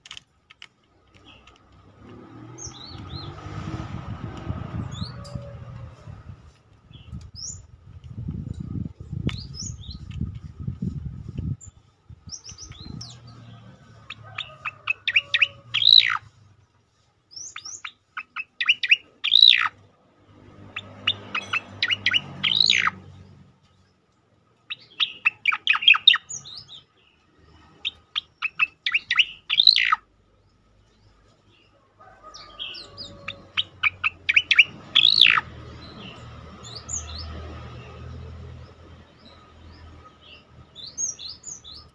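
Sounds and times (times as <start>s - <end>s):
bird song with chipping notes: 0.5s - 3.6s, 4.8s - 41.9s.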